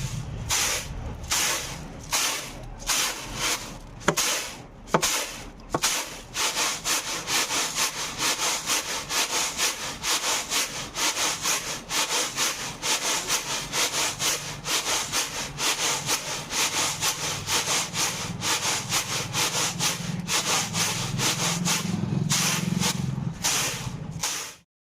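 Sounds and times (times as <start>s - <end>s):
seeds rustling in winnowing tray: 0.0s - 24.6s.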